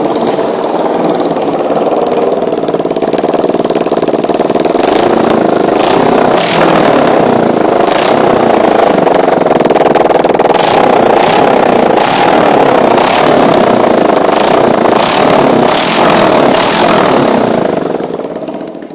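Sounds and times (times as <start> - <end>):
exhaust cracks: 0.0 - 18.9
motorcycle engine revving: 0.0 - 18.9.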